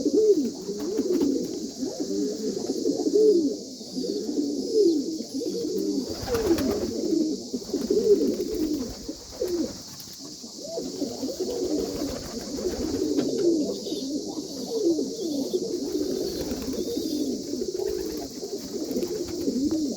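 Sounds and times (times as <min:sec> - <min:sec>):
pigeons cooing: 0:00.0 - 0:19.9.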